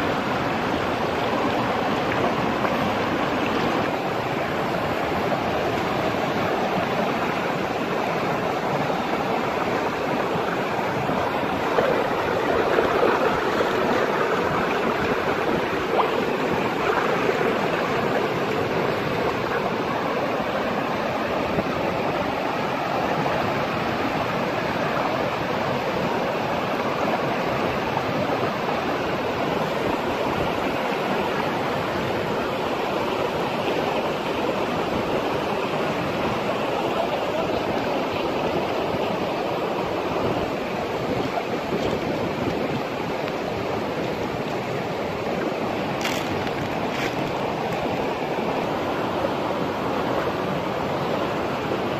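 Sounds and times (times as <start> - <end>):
river rushing over rocks: 0.0 - 51.9
water splashes: 0.0 - 51.9.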